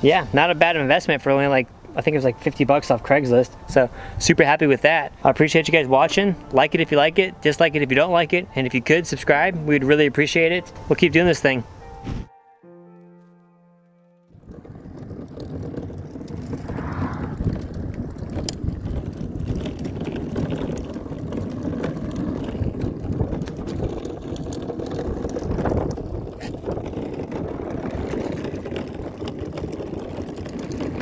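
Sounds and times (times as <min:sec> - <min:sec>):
plastic wheels rolling over asphalt: 0:00.0 - 0:11.6, 0:14.3 - 0:31.0.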